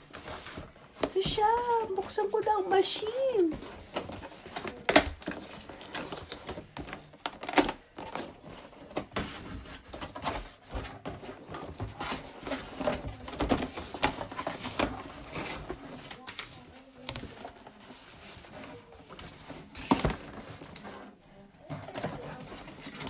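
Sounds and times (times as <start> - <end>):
packaging rustling: 0.0 - 23.0.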